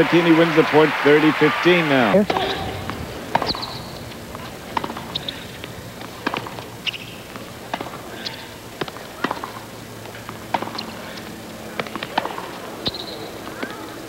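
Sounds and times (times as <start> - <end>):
tennis balls bouncing and struck: 1.9 - 14.0.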